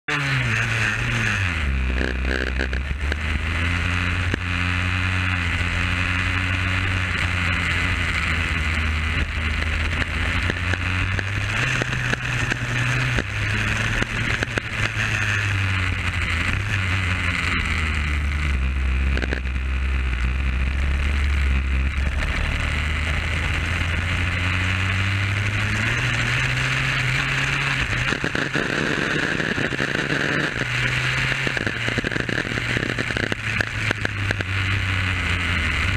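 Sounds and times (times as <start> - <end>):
kart engine at speed: 0.0 - 35.9.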